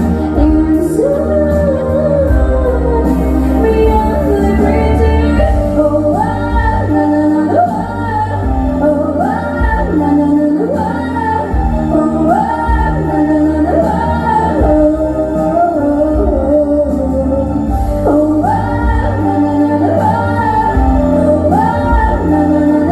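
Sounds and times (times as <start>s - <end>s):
musical backing track: 0.0s - 22.9s.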